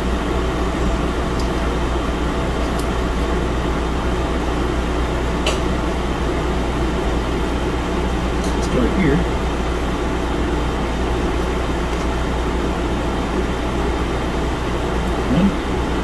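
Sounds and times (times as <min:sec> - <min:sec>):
room hum and hiss: 0:00.0 - 0:16.0.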